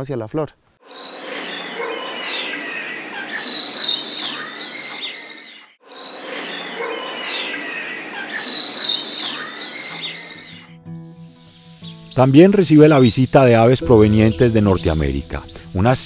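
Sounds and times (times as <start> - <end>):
birds chirping and calling: 0.8 - 15.9.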